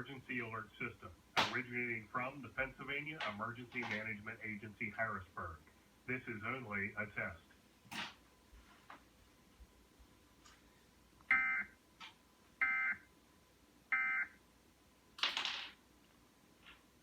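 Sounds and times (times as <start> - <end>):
noisy hiss: 0.0 - 17.0.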